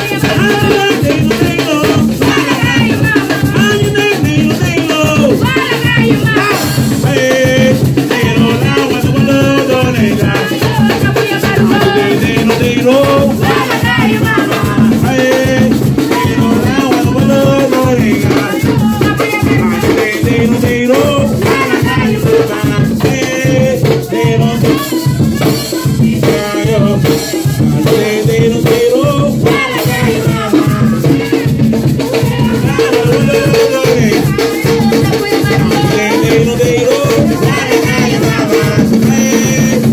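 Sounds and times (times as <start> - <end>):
hand drums: 0.0 - 39.9
person singing: 0.0 - 39.9
shakers: 0.0 - 39.9.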